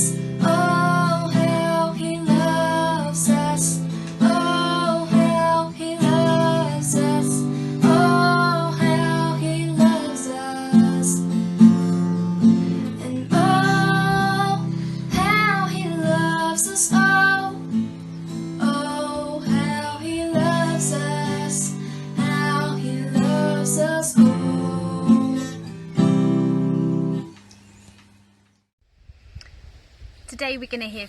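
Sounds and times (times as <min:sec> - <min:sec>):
woman singing: 0:00.0 - 0:17.9, 0:18.6 - 0:25.6
acoustic guitar strumming: 0:00.0 - 0:27.4.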